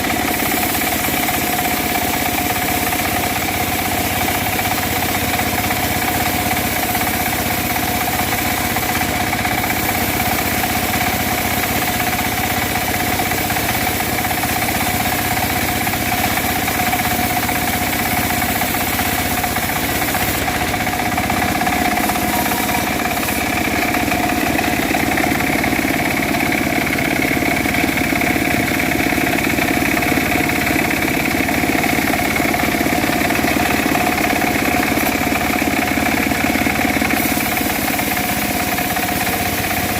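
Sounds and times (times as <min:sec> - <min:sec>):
bandsaw mill sawing wood: 0:00.0 - 0:39.9.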